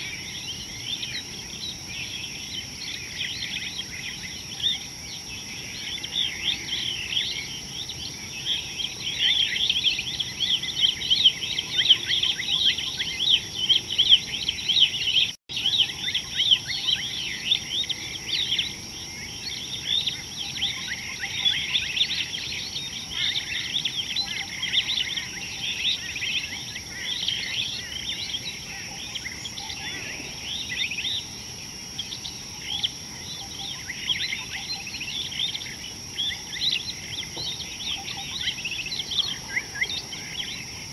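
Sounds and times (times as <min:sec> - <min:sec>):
high-pitched insect drone: 0:00.0 - 0:40.9
small birds chirping: 0:00.0 - 0:40.9.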